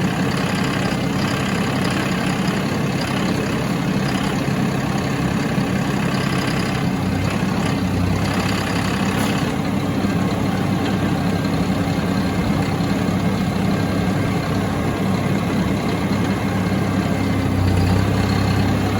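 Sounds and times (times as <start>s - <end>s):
heavy vehicle engine running: 0.0s - 18.9s.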